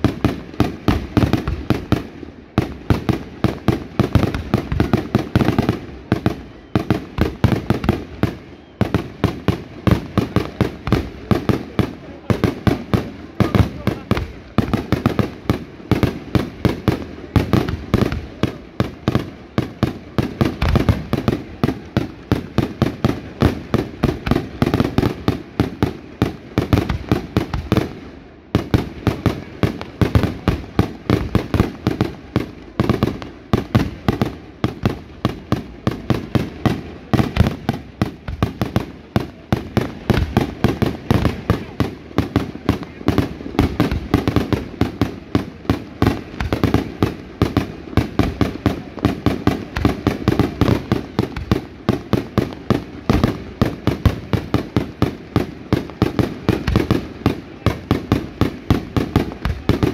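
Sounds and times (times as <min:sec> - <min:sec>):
fireworks banging: 0:00.0 - 0:59.9.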